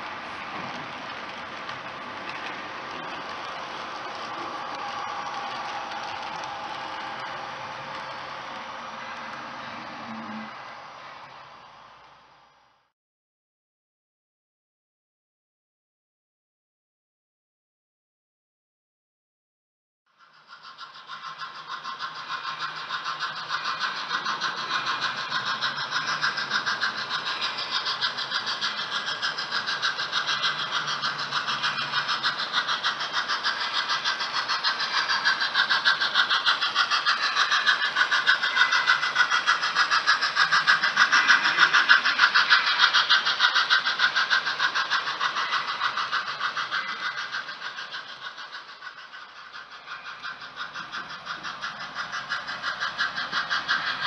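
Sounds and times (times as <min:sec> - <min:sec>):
model train wheels clattering on rail: 0:00.0 - 0:12.4, 0:20.2 - 0:54.0.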